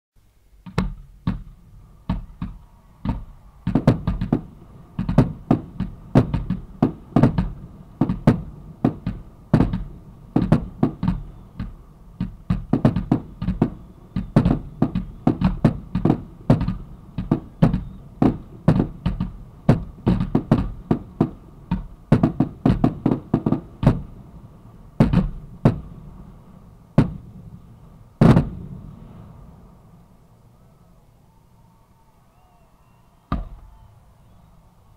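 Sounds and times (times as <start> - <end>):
fireworks booming: 0.6 - 30.4, 33.2 - 34.5.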